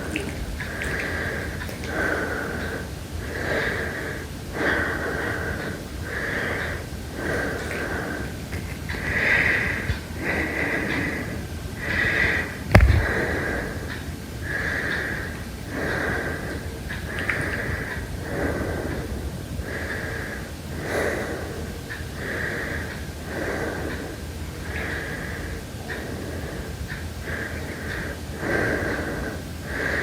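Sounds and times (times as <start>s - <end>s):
heavy wheezing breathing: 0.0s - 30.0s.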